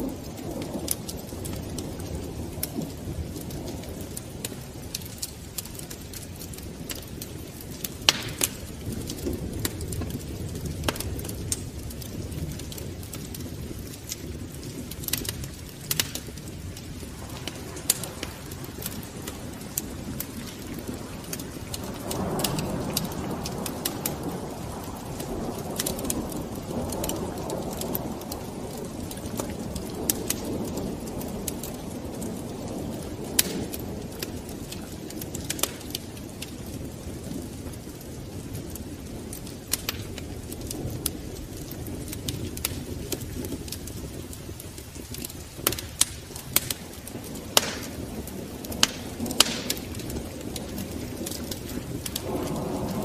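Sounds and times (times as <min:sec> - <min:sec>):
fire crackling in fireplace: 0:00.0 - 0:53.0.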